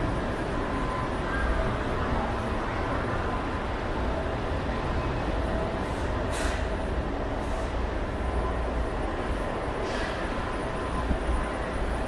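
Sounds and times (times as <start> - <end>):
low rumble of station: 0.0 - 12.0.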